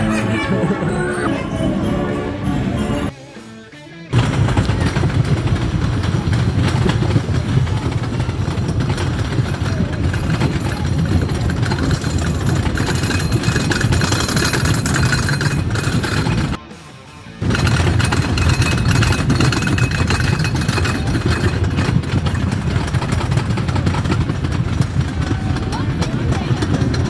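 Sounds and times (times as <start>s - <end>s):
roller coaster chain lift rattling: 4.2s - 16.6s, 17.4s - 27.0s.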